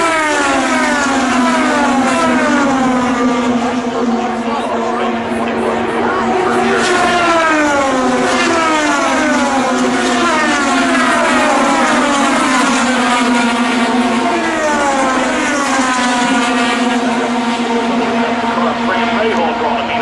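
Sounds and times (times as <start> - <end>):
race cars passing at speed: 0.0 - 20.0
steady low drone: 0.0 - 20.0.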